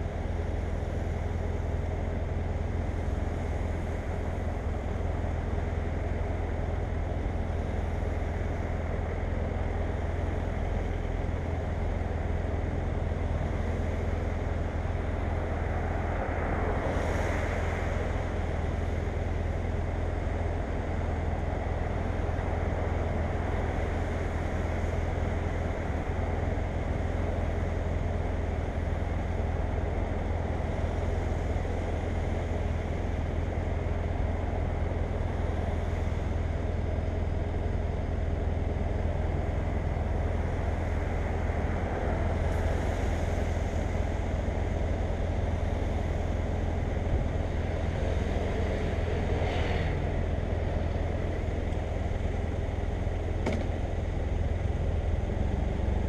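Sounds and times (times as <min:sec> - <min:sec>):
motorcycle engine and road drone: 0:00.0 - 0:56.0.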